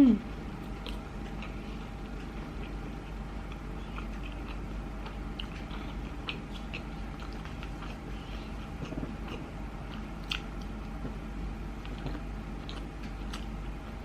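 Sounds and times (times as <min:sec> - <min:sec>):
person chewing with wet mouth clicks: 0:00.6 - 0:11.1, 0:11.8 - 0:14.0.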